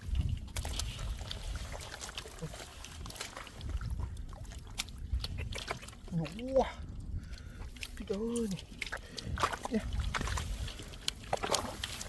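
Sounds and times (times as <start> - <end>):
splashing in muddy water: 0.0 - 12.0.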